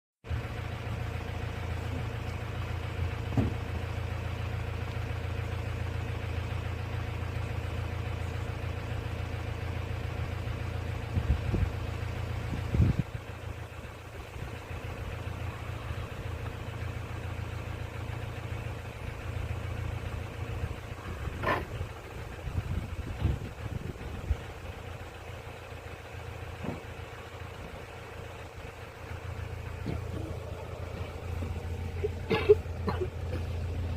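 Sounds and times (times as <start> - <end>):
vehicle engine idling: 0.2 - 33.9.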